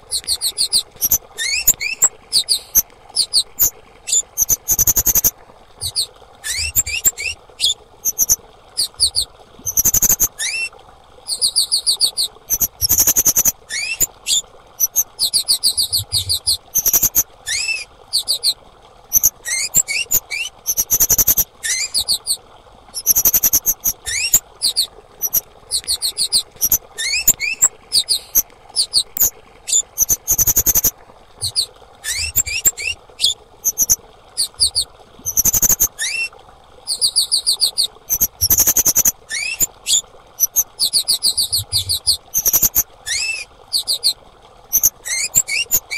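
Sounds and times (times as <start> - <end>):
bird calling with sharp chirps: 0.1 - 10.7, 11.3 - 22.4, 23.0 - 36.3, 36.9 - 45.9.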